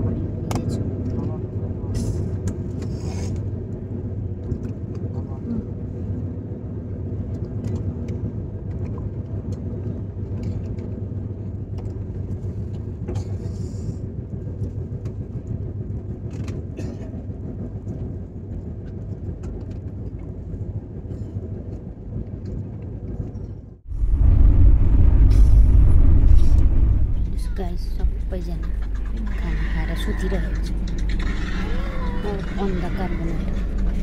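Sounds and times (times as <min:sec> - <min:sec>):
train rumble inside coach: 0:00.0 - 0:34.0.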